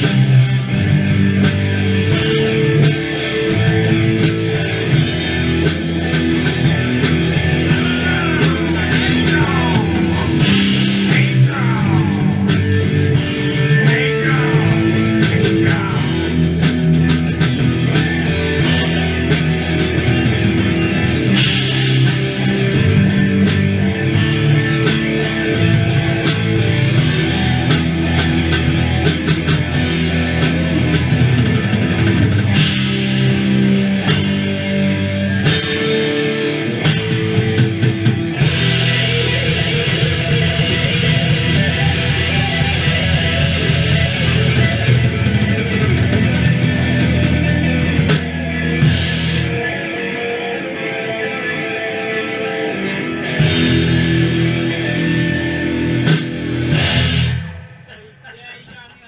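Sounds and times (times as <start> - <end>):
bending guitar notes: 0.0 - 59.0
live rock band playing: 0.0 - 59.0.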